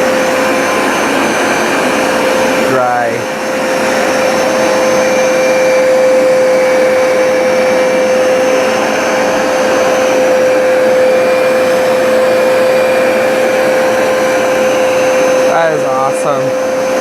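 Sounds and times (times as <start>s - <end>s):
carpet cleaner running: 0.0s - 17.0s.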